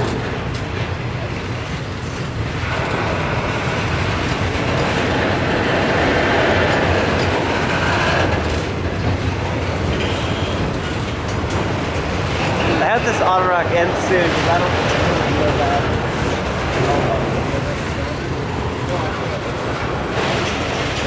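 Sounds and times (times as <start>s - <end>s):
freight train wheels rumbling on rails: 0.0s - 21.0s.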